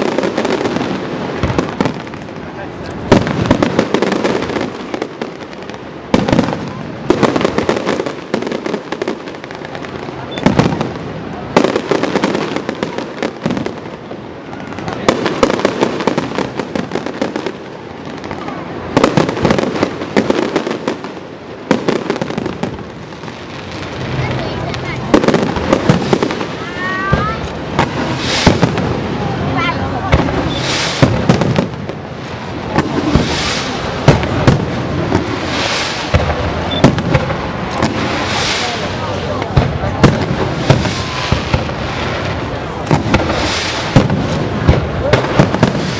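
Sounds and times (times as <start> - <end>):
firework crackling: 0.0 - 45.9
firework shells bursting with bangs: 0.0 - 45.9.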